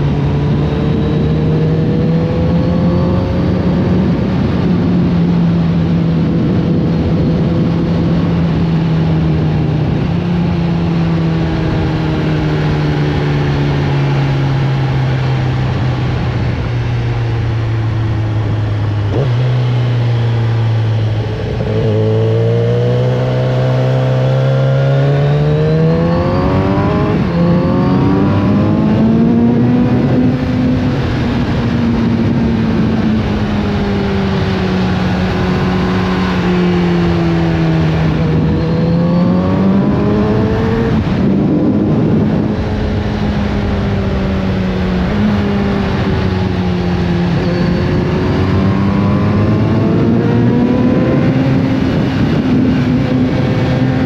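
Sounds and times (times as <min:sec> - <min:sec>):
motorcycle engine: 0:00.0 - 0:54.0
wind noise: 0:00.0 - 0:54.0.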